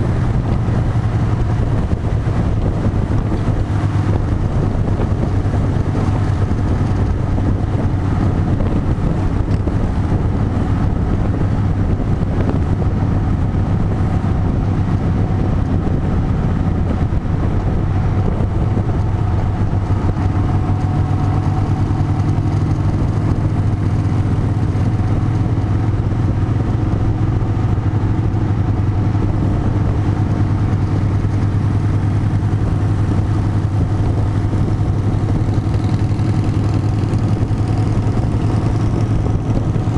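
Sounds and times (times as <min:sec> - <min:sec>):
large engine running: 0:00.0 - 0:39.9.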